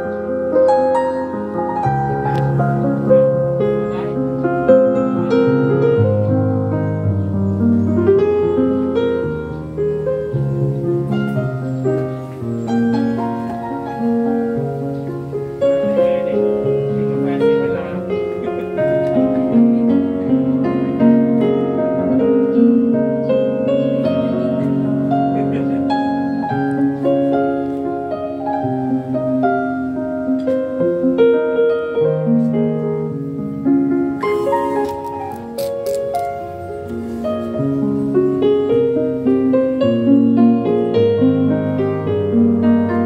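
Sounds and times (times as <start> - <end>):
instrumental melody over bass: 0.0 - 43.0.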